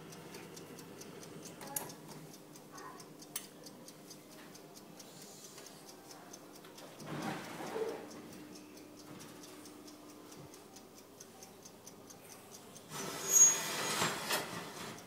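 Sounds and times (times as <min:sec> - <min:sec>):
rapid mechanical ticking: 0:00.0 - 0:15.0.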